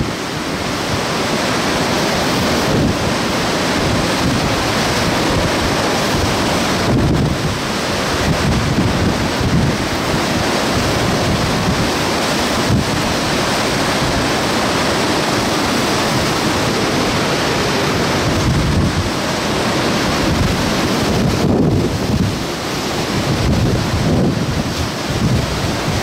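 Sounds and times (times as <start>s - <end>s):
heavy wind-driven rain: 0.0s - 26.0s
hurricane-force wind: 0.0s - 26.0s
wind gusts buffeting microphone: 0.0s - 26.0s.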